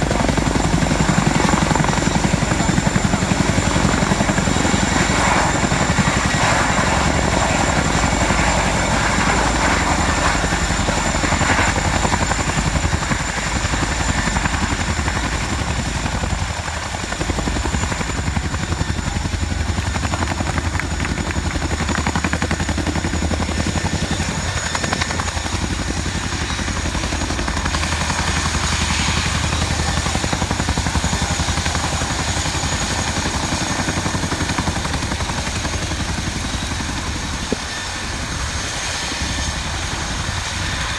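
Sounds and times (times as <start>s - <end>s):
helicopter rotor beat: 0.0s - 40.9s
high turbine whine: 0.0s - 40.9s.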